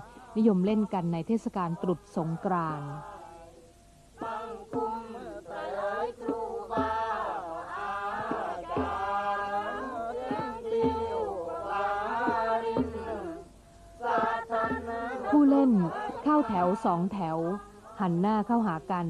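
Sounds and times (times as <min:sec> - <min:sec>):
women singing in unison: 0:00.0 - 0:03.6, 0:04.2 - 0:19.0.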